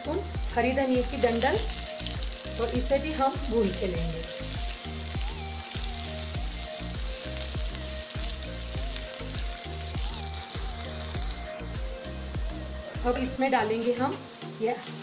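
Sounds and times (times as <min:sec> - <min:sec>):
background music with steady beat: 0:00.0 - 0:15.0
garlic sizzling in hot oil: 0:00.0 - 0:15.0.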